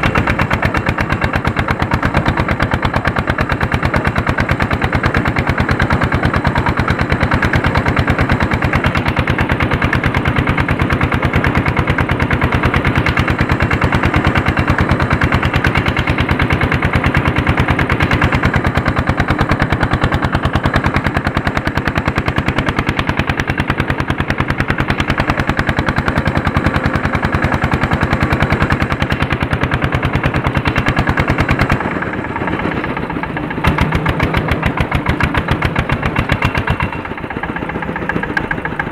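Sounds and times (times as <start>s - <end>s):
tractor diesel engine chugging: 0.0s - 38.9s.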